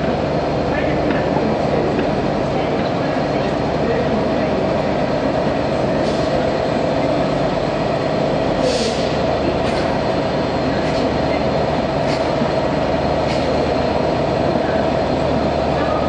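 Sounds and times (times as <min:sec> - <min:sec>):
diesel locomotive engine running: 0:00.0 - 0:16.0.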